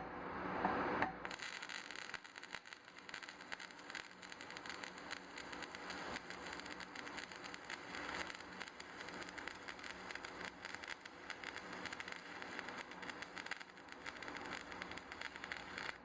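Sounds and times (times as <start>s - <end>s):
faint steady hum: 0.0s - 16.0s
welding arc crackling: 1.2s - 16.0s.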